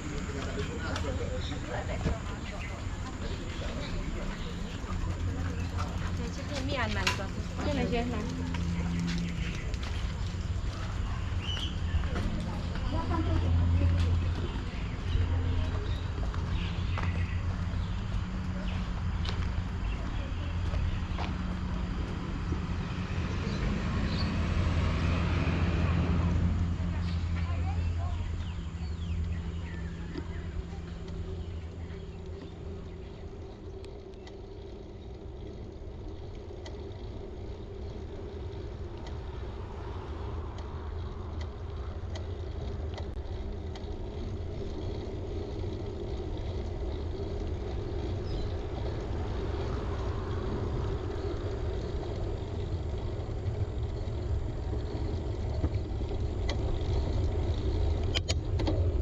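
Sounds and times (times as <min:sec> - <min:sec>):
low rumble of road traffic: 0:00.0 - 0:59.0.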